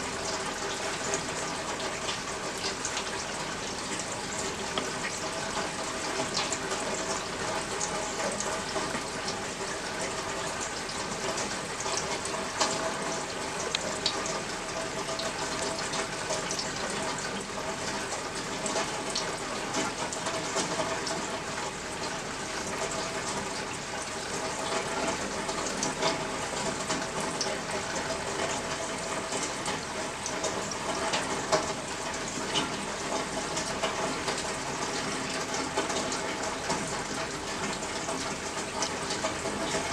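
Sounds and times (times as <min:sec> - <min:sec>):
rain falling and running: 0:00.0 - 0:39.9
water drips and splashes: 0:00.0 - 0:39.9.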